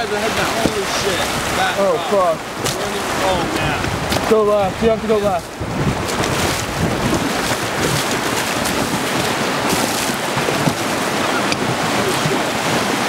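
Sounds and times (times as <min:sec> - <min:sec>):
whitewater rapids roaring: 0:00.0 - 0:13.0.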